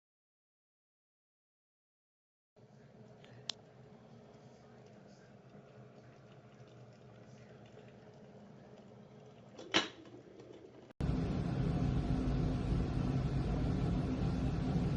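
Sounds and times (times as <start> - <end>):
kettle heating water hiss: 2.6 - 14.9.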